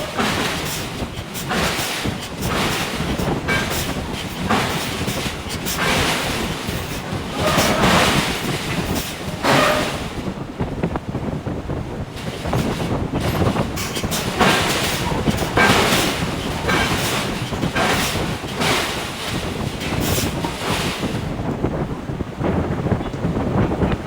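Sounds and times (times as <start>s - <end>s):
forging hammer striking steel: 0.0s - 10.4s, 12.2s - 21.4s
rumble of forge machinery: 0.0s - 24.0s.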